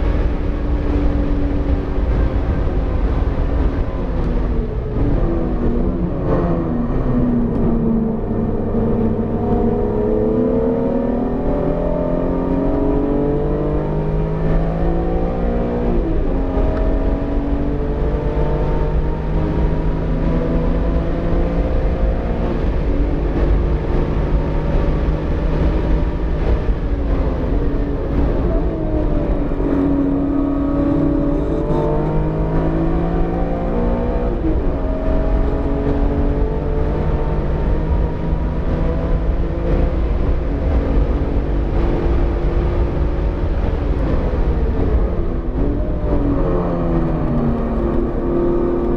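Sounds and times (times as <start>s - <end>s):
car engine accelerating: 0.0s - 48.9s
road rumble: 0.0s - 48.9s.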